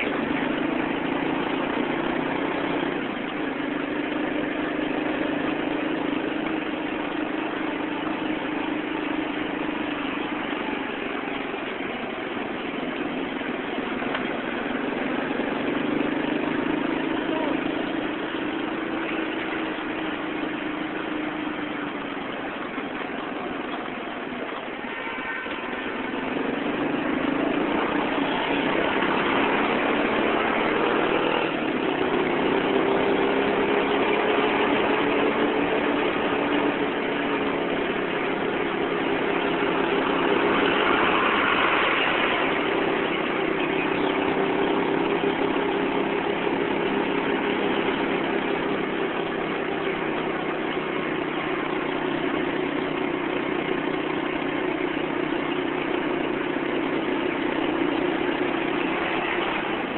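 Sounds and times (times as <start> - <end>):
truck passing: 0.0 - 56.0, 56.6 - 59.9
traffic noise: 0.0 - 59.9
vehicle engine running: 0.0 - 59.9.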